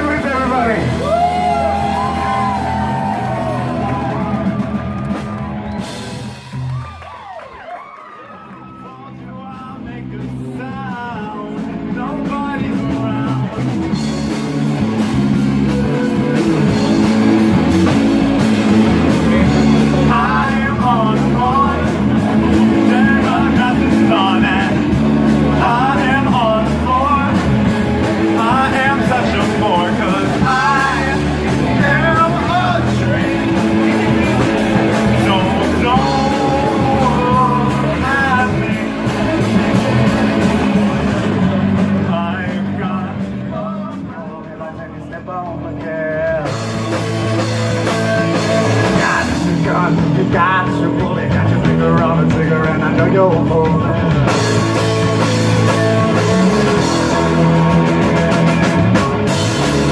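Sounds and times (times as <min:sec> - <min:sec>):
rock band playing: 0:00.0 - 0:59.9
bending lead guitar melody: 0:09.0 - 0:59.9.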